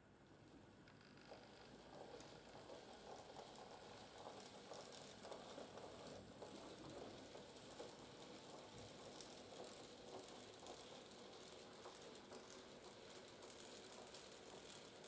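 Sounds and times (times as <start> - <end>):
model train clicking and rattling: 1.3 - 15.0.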